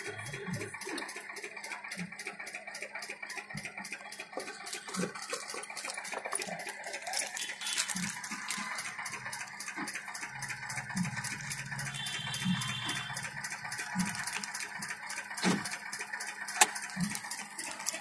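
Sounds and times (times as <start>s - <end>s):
fast even ticking: 0.0s - 18.0s.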